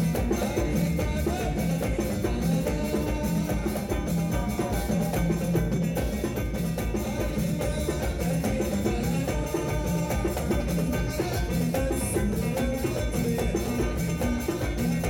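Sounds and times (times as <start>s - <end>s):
electric guitar: 0.0s - 15.0s
frame drums beating: 0.0s - 15.0s.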